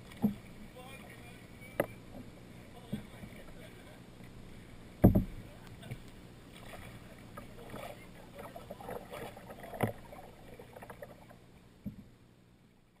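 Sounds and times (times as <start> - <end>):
paddle splashing in water: 0.0 - 11.4.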